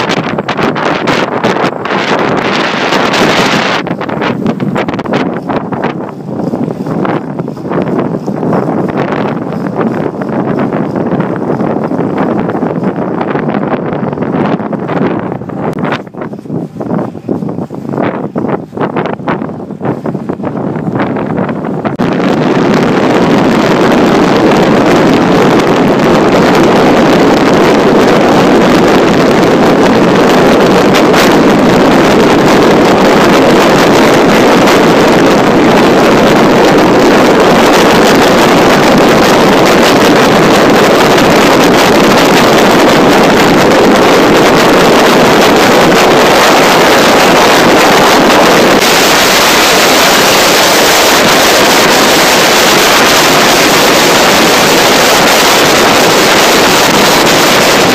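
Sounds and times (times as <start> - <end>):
wind blasting microphone: 0.0 - 57.9.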